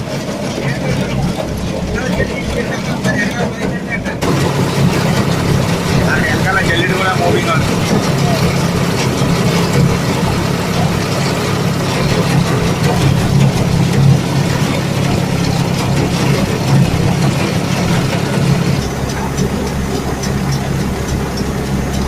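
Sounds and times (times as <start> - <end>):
combine harvester engine drone: 0.0 - 22.0
working machinery noise: 0.0 - 22.0.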